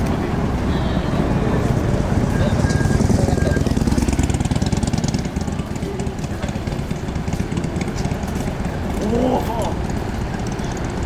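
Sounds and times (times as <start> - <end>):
street noise hiss: 0.0 - 11.0
vehicle engine idling: 0.0 - 11.0.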